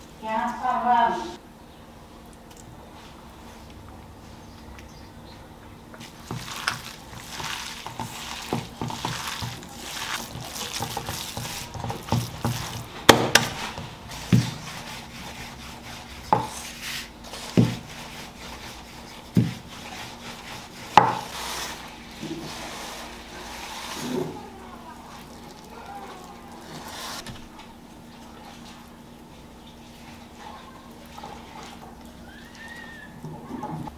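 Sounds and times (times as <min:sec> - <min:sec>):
hands squishing wet meat filling: 0:06.0 - 0:33.6.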